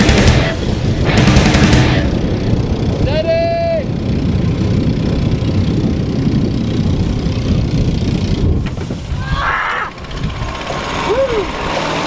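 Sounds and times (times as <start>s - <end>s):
boat motor running: 0.0s - 9.0s, 9.8s - 12.0s
wind rumbling on microphone: 0.0s - 12.0s.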